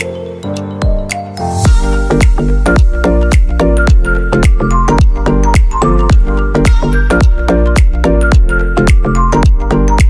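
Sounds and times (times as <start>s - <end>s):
electronic music with kick drums: 0.0s - 10.0s.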